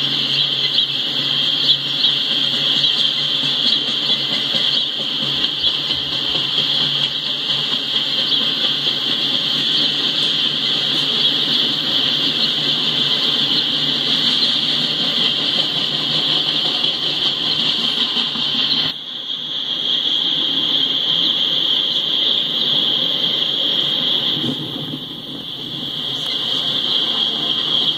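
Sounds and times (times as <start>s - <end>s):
freight train rumble: 0.0s - 27.9s
wheels screeching: 0.0s - 27.9s.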